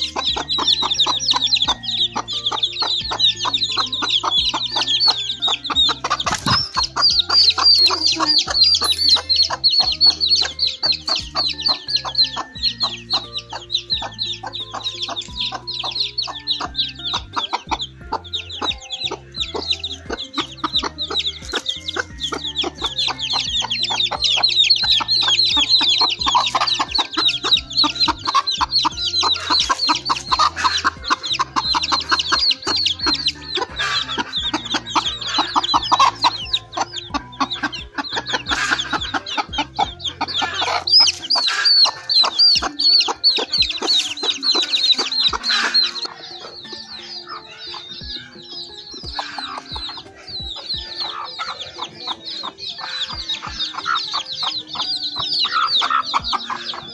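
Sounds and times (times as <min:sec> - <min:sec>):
chicks peeping: 0:00.0 - 0:56.9
hen clucking: 0:00.0 - 0:56.9.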